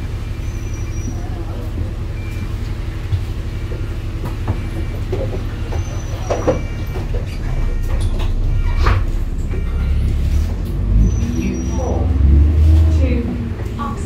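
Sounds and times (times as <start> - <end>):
bus engine and tyre rumble: 0.0 - 14.0.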